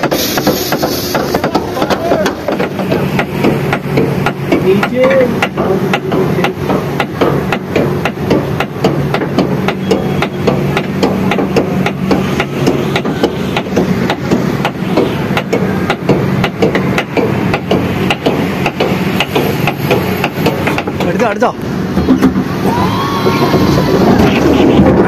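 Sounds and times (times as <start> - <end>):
rapid even clacking: 0.0 - 21.5.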